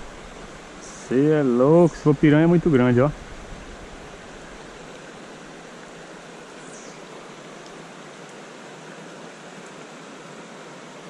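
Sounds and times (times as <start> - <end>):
outdoor ambience hiss: 0.0 - 11.0.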